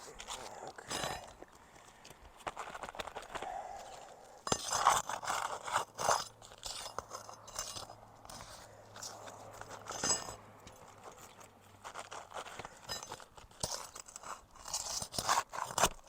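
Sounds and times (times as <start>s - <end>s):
shingle crunching: 0.0s - 16.0s
metal tool scraping shingles: 0.2s - 1.4s, 3.9s - 16.0s.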